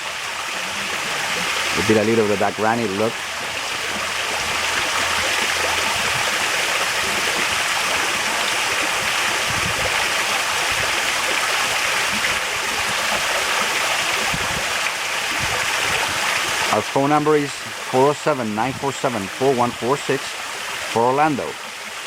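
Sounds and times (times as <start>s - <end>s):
waterfall pouring into pool: 0.0s - 22.0s.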